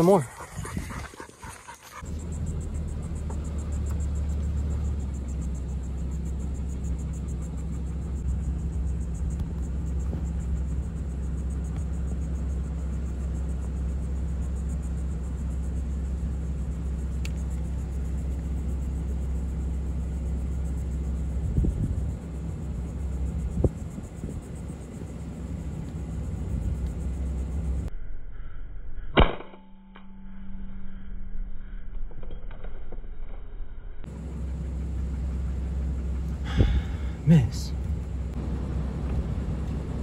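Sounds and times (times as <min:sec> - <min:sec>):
vehicle engine running: 0:00.0 - 0:27.9, 0:34.0 - 0:40.0.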